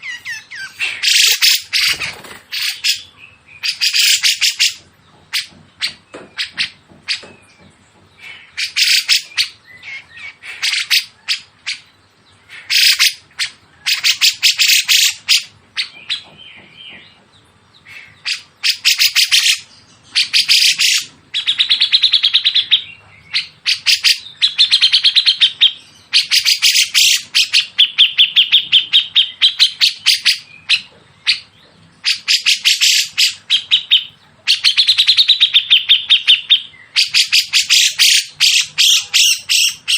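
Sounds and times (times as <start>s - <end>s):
songbird chattering trills: 0.0s - 39.9s.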